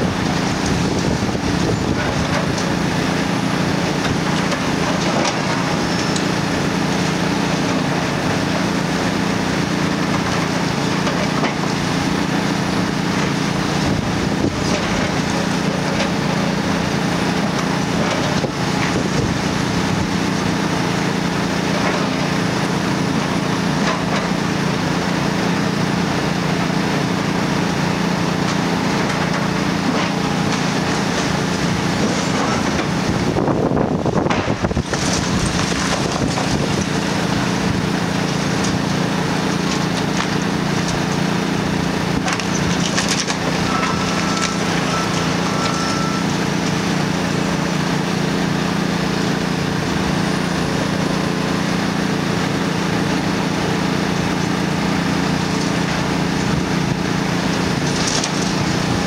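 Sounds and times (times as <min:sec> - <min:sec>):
diesel excavator engine running: 0:00.0 - 0:59.0.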